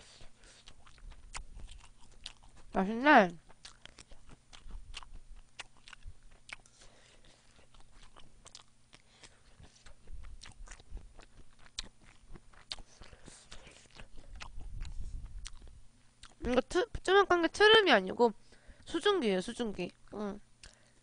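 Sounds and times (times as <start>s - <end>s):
chewing food: 0.0s - 16.6s, 19.9s - 20.9s.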